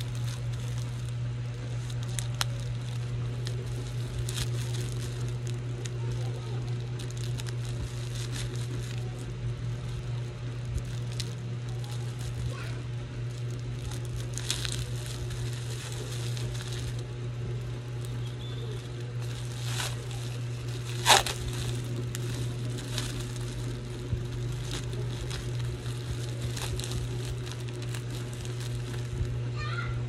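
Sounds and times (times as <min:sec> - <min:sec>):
plastic wrapping crinkling and tearing: 0:00.0 - 0:29.7
steady low hum: 0:00.0 - 0:30.0.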